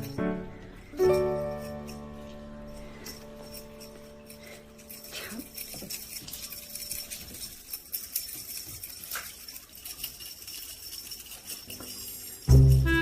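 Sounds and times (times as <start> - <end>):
toy jingling and clicking: 0.0 - 13.0.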